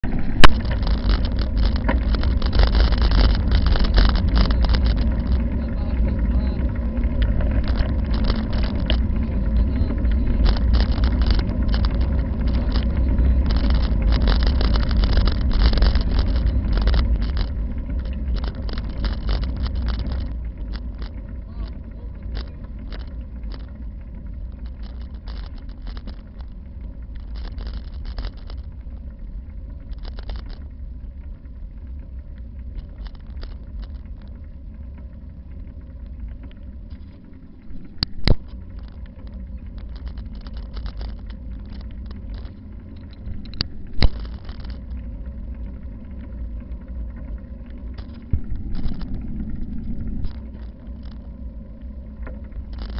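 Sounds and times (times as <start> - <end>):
bicycle road noise: 0.0 - 52.9
light clicks and rattles: 0.0 - 52.9
wind rumble: 0.0 - 52.9.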